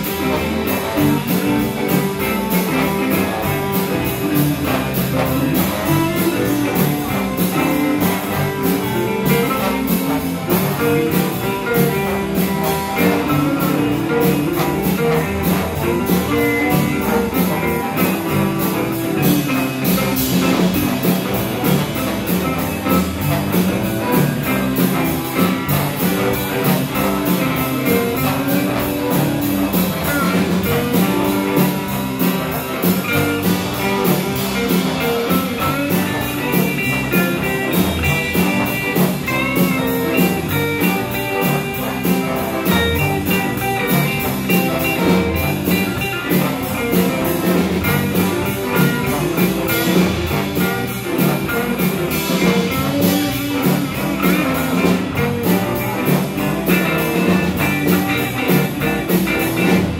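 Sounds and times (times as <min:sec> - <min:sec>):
live blues band playing: 0:00.0 - 0:59.9
trombone playing: 0:00.0 - 0:59.9.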